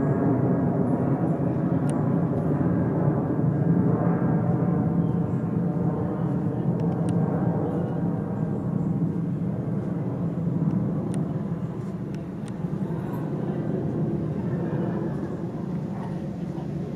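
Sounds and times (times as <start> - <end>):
jet engines deep rumble: 0.0 - 16.9.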